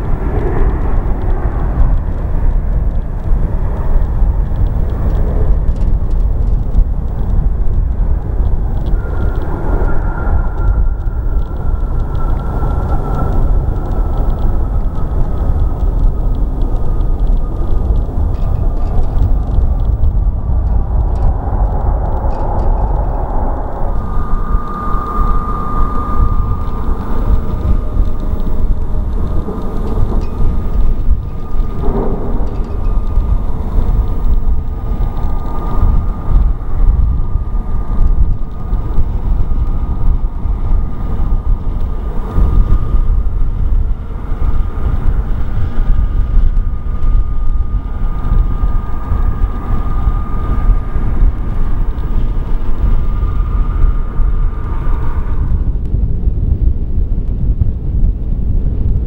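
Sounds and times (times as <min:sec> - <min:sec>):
jet engines rumbling and whining: 0:00.0 - 0:56.1.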